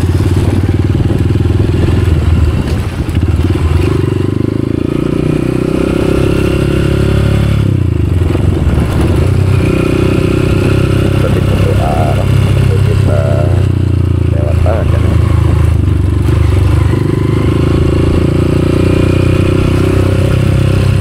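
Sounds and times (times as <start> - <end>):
small motorcycle engine running: 0.0 - 21.0.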